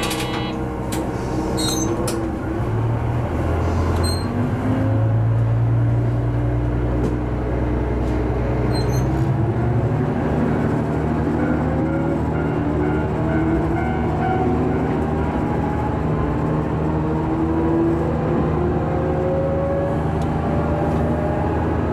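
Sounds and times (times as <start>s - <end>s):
rolling rail noise: 0.0s - 19.2s
railcar engine drone: 0.0s - 21.9s.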